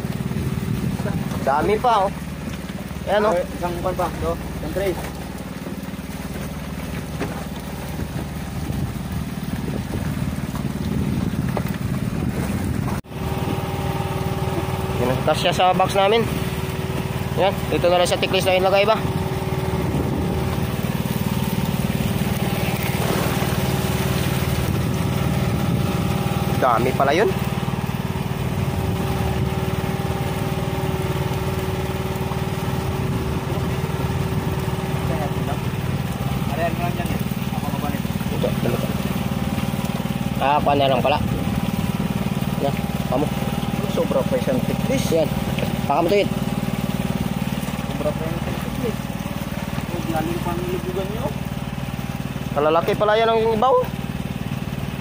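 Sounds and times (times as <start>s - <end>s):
engine humming: 0.0s - 55.0s.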